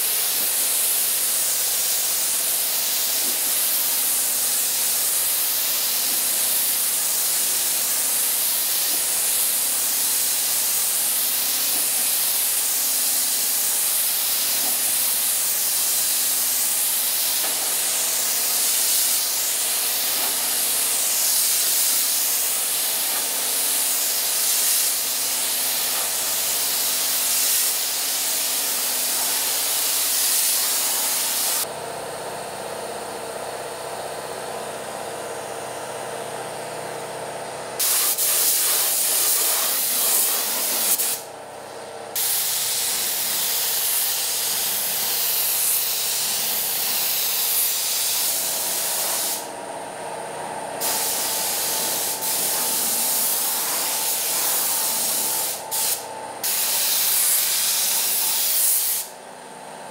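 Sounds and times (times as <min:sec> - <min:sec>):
spray gun hissing: 0:00.0 - 0:31.7, 0:37.8 - 0:41.3, 0:42.2 - 0:49.5, 0:50.8 - 0:59.1.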